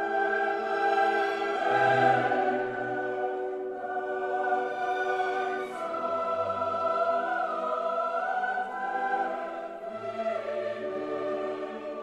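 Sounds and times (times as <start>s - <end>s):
choir singing long held notes: 0.0s - 12.0s.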